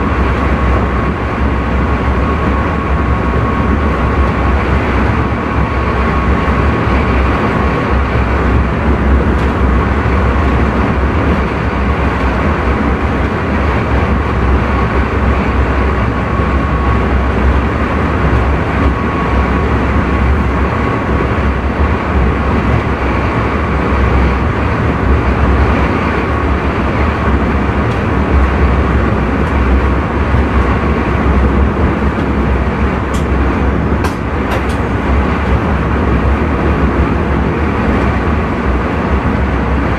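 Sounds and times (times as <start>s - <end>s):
faint steady whine: 0.0s - 39.9s
train rumbling on rails: 0.0s - 39.9s.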